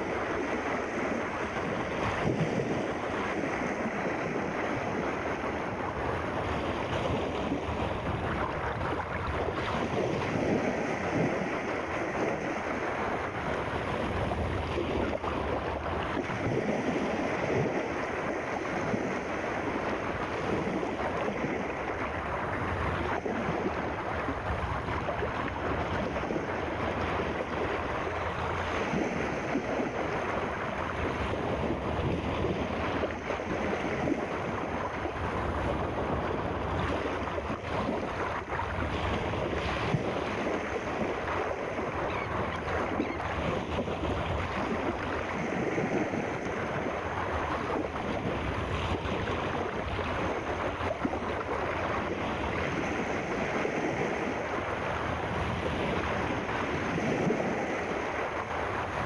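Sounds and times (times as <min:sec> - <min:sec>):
surf rushing: 0:00.0 - 0:59.0
wind: 0:00.0 - 0:59.0.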